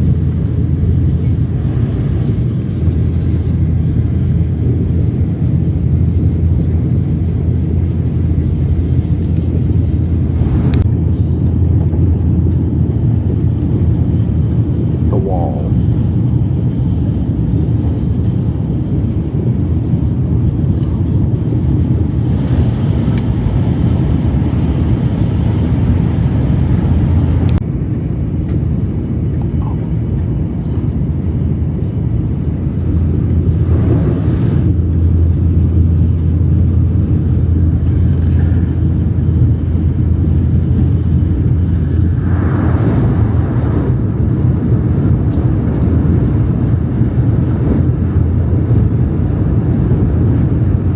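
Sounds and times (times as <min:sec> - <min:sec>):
train running rumble: 0:00.0 - 0:50.9.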